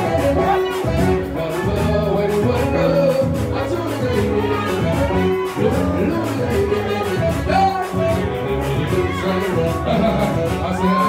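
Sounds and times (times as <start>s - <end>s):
electric bass and guitar: 0.0s - 11.0s
man singing: 0.0s - 11.0s
steady drum beat: 0.0s - 11.0s.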